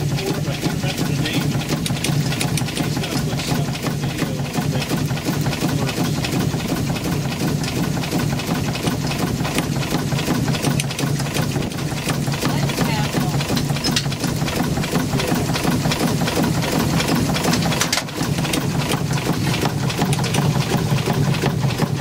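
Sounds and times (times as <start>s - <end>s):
small steam engine clicking: 0.0s - 22.0s.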